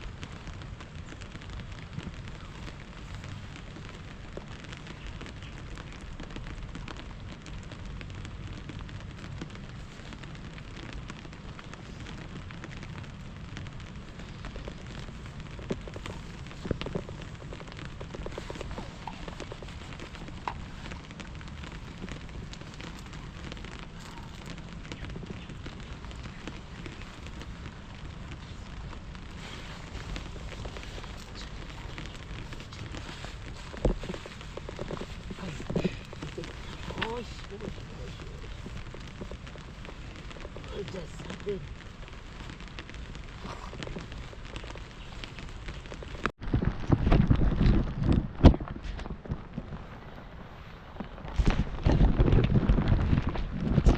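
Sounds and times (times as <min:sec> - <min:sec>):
campfire crackling: 0:00.0 - 0:53.9
steady rain falling: 0:00.0 - 0:53.9.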